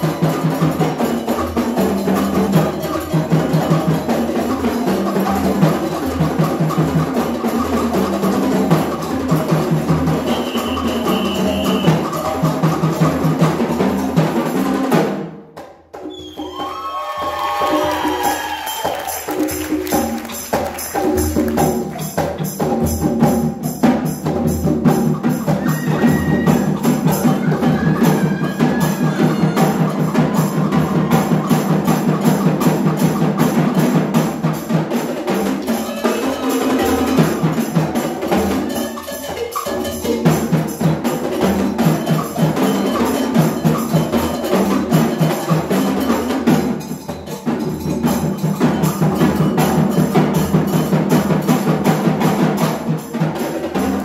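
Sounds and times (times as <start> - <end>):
conga and tenor drums playing: 0.0 - 54.0.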